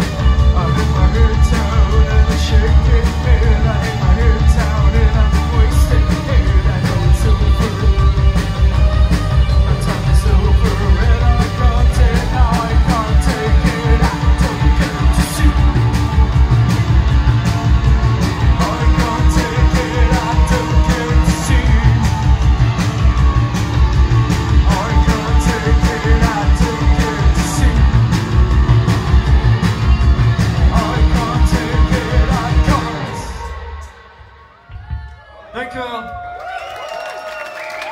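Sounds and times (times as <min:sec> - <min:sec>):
driving drum beat: 0:00.0 - 0:33.8
person singing: 0:00.0 - 0:34.3
live rock band playing: 0:00.0 - 0:34.4.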